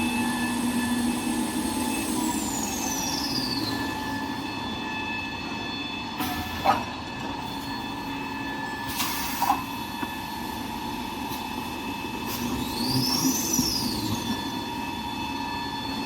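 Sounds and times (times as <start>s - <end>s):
machine humming and whining: 0.0s - 16.0s.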